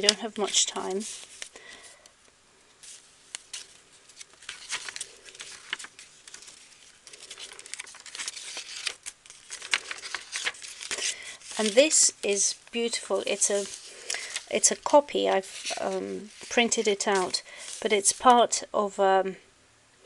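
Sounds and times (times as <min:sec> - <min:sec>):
paper pages rustling: 0:00.0 - 0:01.9, 0:02.8 - 0:18.5.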